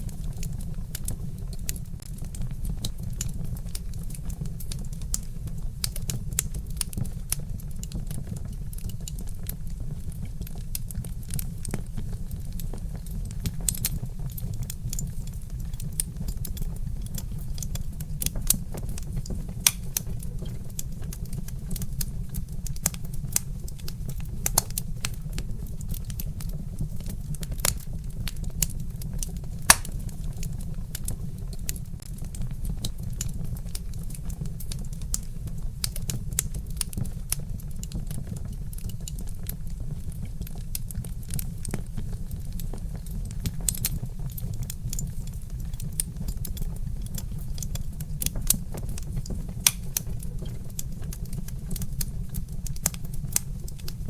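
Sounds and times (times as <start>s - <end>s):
burning logs crackling: 0.0s - 54.0s.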